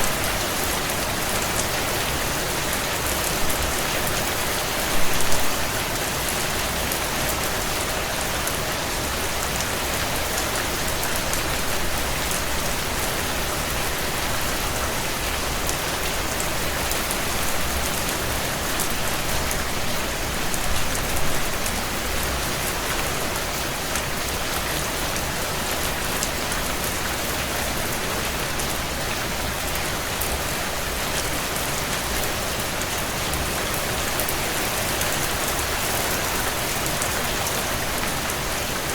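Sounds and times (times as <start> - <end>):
heavy rain on window panes: 0.0 - 38.9.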